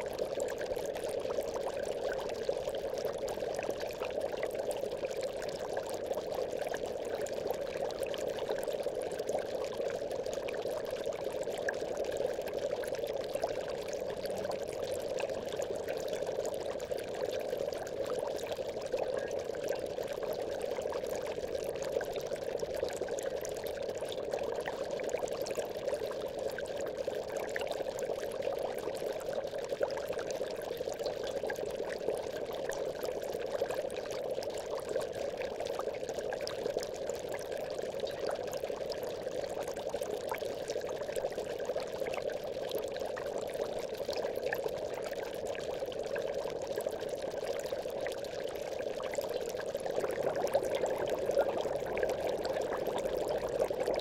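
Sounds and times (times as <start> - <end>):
aquarium bubbles in water: 0.0 - 54.0.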